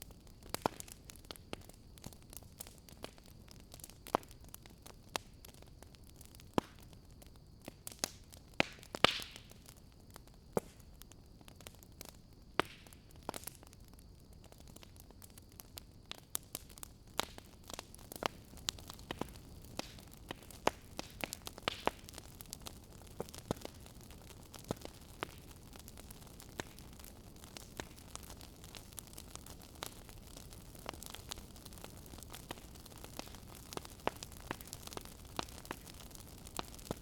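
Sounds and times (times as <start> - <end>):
soft steady hiss: 0.0 - 37.0
wood fire crackling and popping: 0.0 - 37.0.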